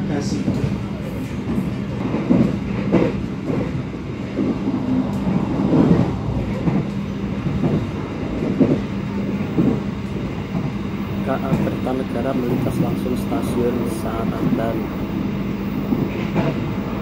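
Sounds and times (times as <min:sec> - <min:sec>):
train interior hum: 0:00.0 - 0:17.0
train rumble: 0:00.0 - 0:17.0.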